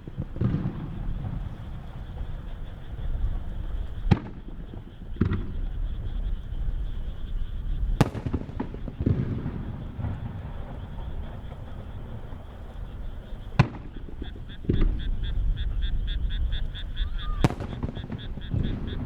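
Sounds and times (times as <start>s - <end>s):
firework shells bursting: 0.0s - 5.8s, 8.0s - 16.0s, 17.4s - 19.0s.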